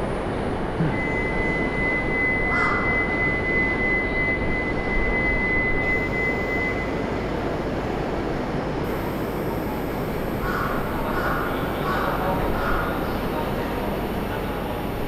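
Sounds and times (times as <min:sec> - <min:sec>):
high steady whine: 0:00.0 - 0:15.0.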